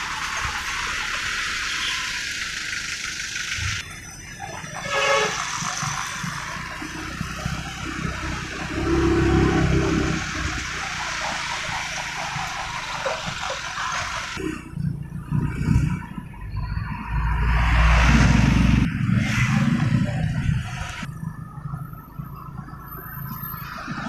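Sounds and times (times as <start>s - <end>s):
wind and tyre hiss: 0.0s - 24.0s.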